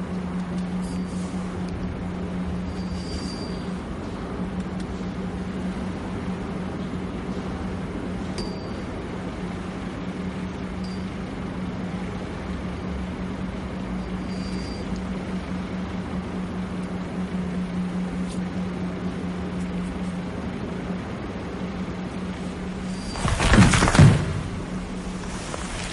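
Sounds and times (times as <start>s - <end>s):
low hum: 0.0s - 25.9s
rumbling hiss: 0.0s - 25.9s.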